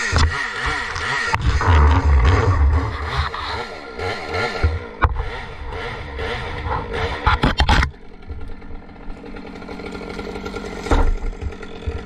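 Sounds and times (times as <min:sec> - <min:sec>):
chainsaw idling: 0:00.0 - 0:12.0.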